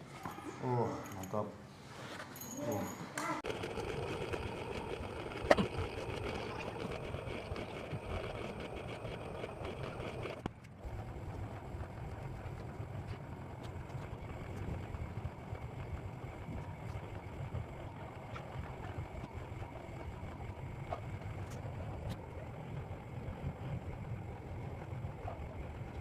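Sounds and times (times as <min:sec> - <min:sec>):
steady low rumble: 0:03.4 - 0:26.0.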